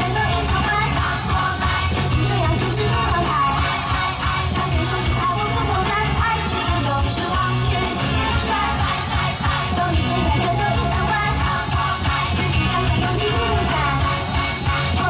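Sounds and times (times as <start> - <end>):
pop music with woman singing: 0.0 - 15.0.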